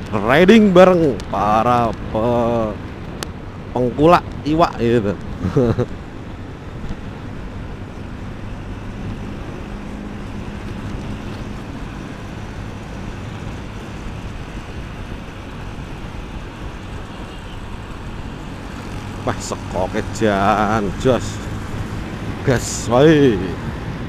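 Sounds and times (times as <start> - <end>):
motorcycle engine hum: 0.0 - 24.0.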